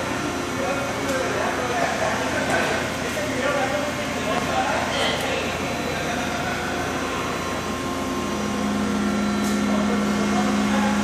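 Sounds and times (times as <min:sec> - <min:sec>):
machinery hum with low drone: 0:00.0 - 0:11.0.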